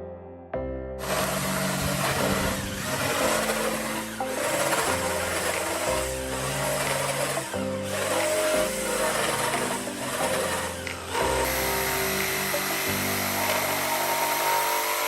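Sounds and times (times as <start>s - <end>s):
background music: 0.0s - 15.0s
power tool whining: 1.0s - 15.0s.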